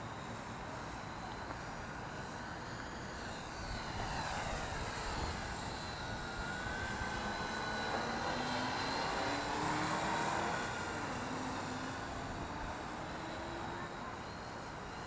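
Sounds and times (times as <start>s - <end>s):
drone motors whining: 0.9s - 15.0s.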